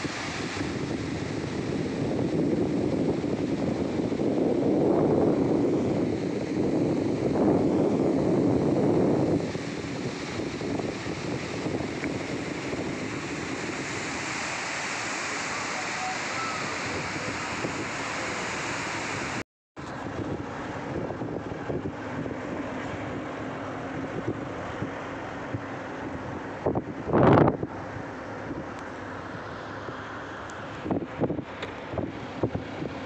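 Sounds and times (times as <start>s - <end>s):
river rapids roaring: 0.0s - 33.0s.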